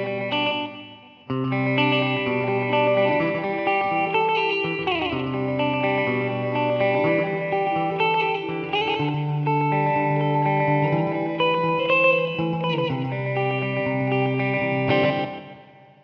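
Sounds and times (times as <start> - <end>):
clean electric guitar with delay: 0.0 - 16.0.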